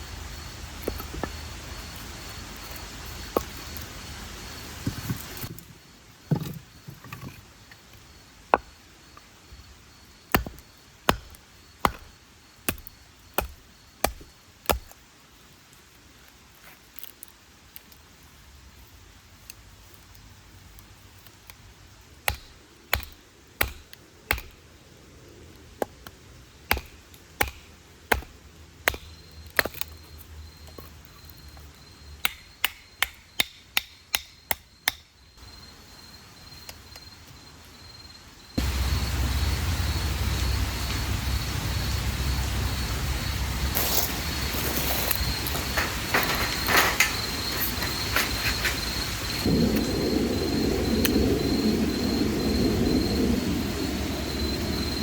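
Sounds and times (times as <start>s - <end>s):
crickets chirping: 0.0s - 55.0s
outdoor ambience: 0.0s - 55.0s.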